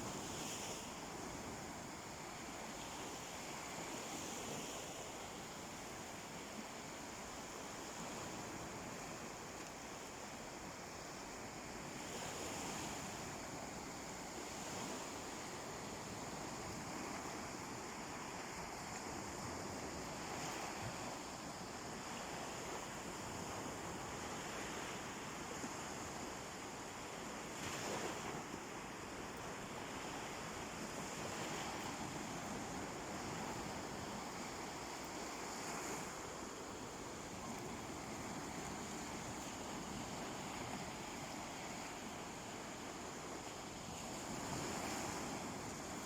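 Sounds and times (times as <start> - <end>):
sea waves washing onto beach: 0.0 - 46.0.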